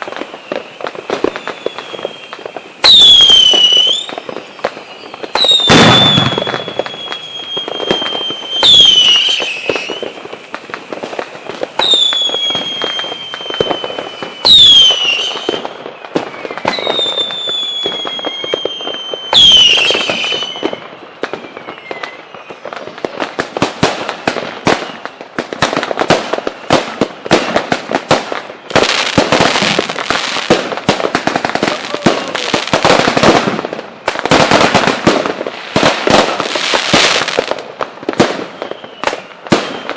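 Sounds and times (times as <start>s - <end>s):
dense rapid firework crackling: 0.0s - 39.9s
firework bangs: 0.0s - 39.9s
whistling fireworks: 0.0s - 39.9s.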